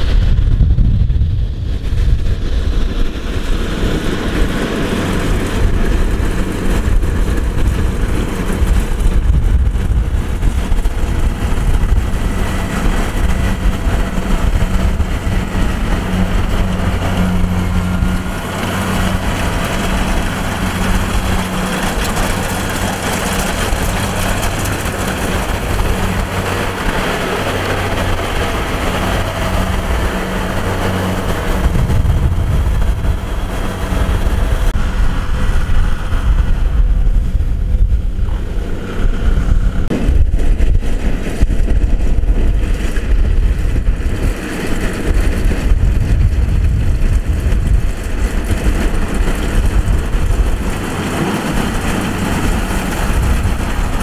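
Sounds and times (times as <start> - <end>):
combine harvester droning: 0.0 - 54.0.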